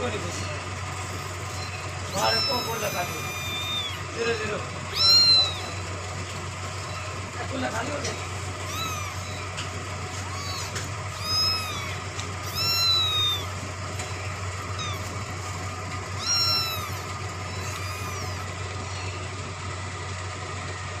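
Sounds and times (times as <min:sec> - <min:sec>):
kittens meowing: 0:00.0 - 0:19.5
steady low hum: 0:00.0 - 0:21.0.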